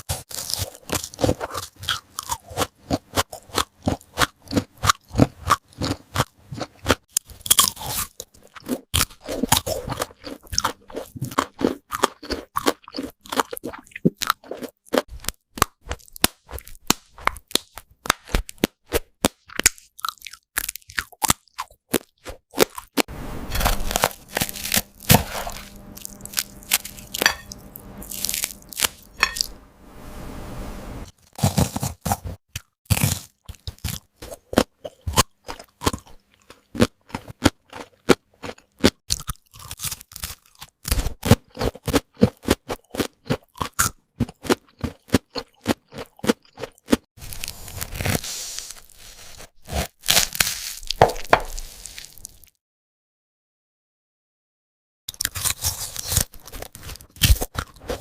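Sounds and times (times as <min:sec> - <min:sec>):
crunching and chewing fried chicken: 0:00.0 - 0:29.5, 0:31.1 - 0:52.6, 0:55.1 - 0:58.0.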